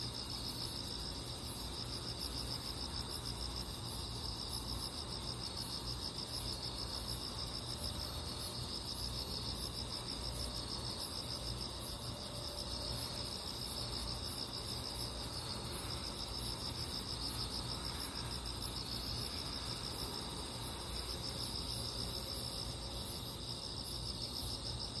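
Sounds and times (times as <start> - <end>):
crickets chirping: 0.0 - 25.0
high continuous buzz: 0.0 - 25.0.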